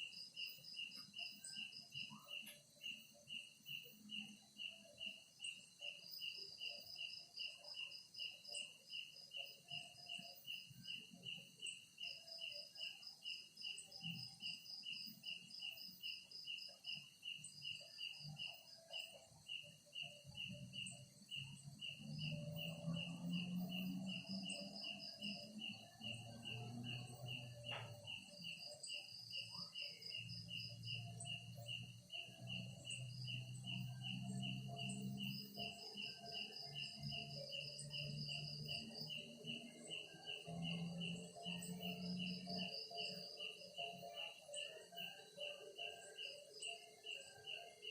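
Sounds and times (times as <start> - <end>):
high-pitched insect drone: 0.0 - 47.9
insect chirping: 0.0 - 47.9.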